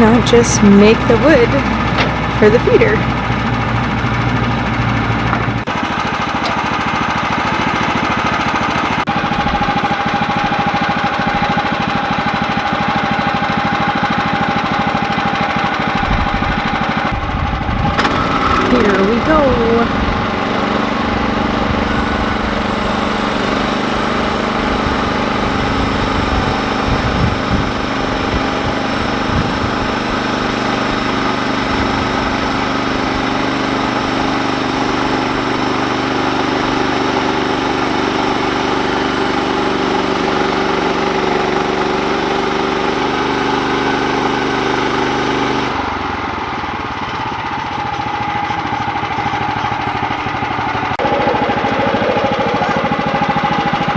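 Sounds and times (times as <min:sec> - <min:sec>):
bandsaw mill engine running: 0:00.0 - 0:53.9.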